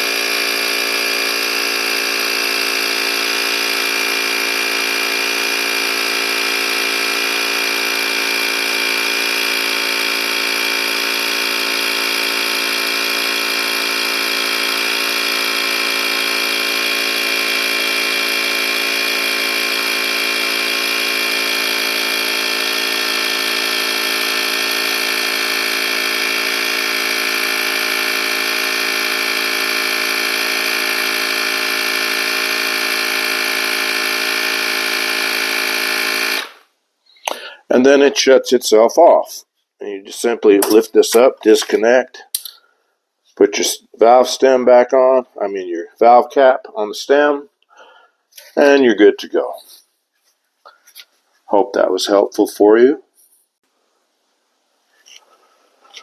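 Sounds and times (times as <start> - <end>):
tire compressor buzzing hum: 0.0 - 38.3, 40.1 - 44.6, 46.0 - 49.9, 54.9 - 56.0.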